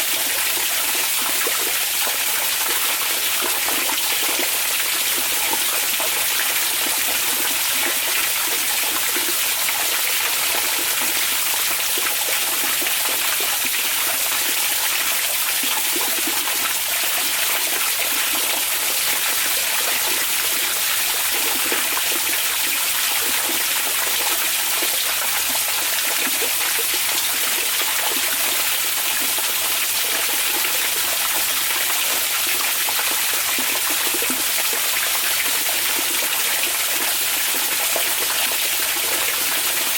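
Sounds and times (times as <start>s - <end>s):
hot spring water rushing: 0.0s - 39.9s.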